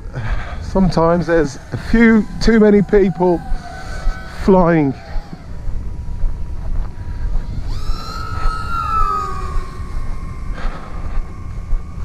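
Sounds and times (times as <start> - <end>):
electric motor and propeller whining: 0.0 - 12.0
wind rumble on microphone: 0.0 - 12.0.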